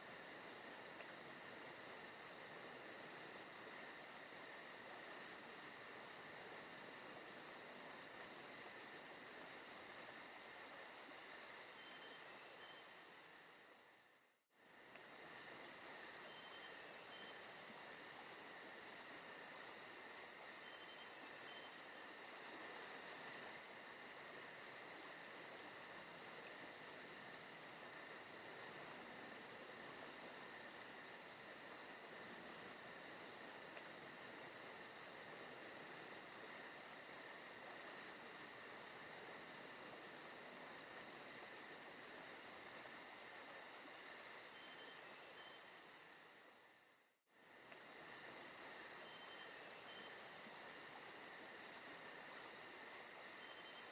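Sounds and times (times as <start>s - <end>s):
insect chorus chirping: 0.0s - 53.9s.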